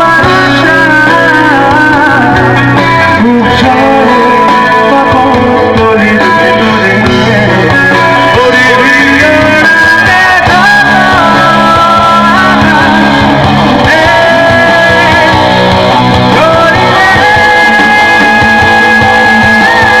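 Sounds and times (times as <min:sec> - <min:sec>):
bending lead melody line: 0:00.0 - 0:20.0
rock band playing live: 0:00.0 - 0:20.0.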